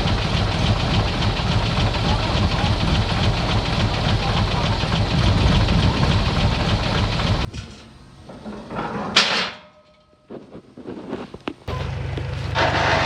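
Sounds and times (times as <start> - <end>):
diesel machinery clattering: 0.0 - 10.2, 11.6 - 13.0.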